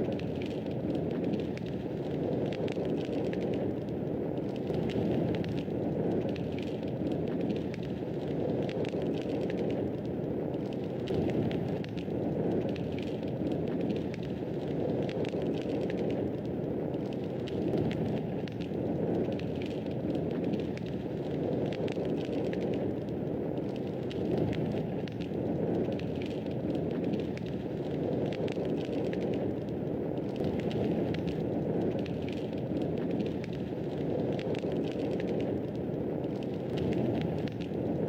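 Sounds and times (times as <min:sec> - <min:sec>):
fire burning with low rushing: 0:00.0 - 0:38.0
fire crackles and pops: 0:00.0 - 0:38.0.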